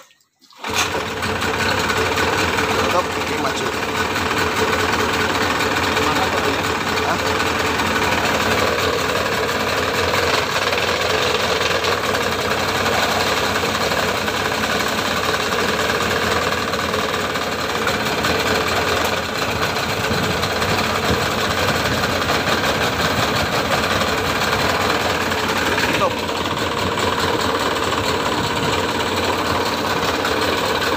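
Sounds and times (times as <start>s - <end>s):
propeller churning water: 0.0s - 30.9s
outboard motor running: 0.6s - 30.9s.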